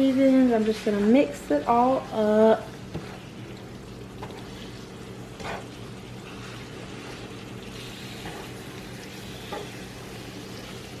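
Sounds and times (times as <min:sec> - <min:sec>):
meat sizzling in a frying pan: 0:01.8 - 0:11.0.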